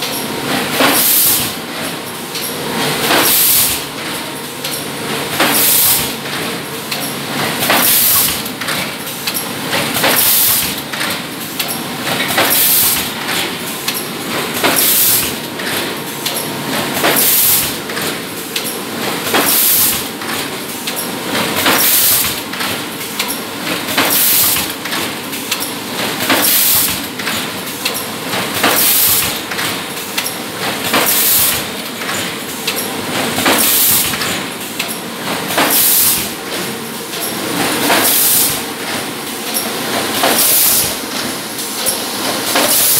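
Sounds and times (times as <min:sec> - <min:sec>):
machine mechanical clatter: 0:00.0 - 0:42.9.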